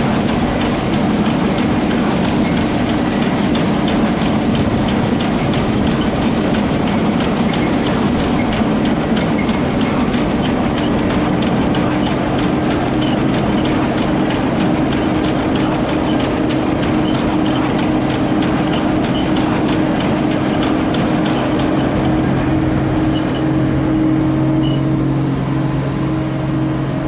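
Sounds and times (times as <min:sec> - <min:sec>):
fast ticking clatter: 0:00.0 - 0:23.8
combine harvester drone: 0:00.0 - 0:27.0.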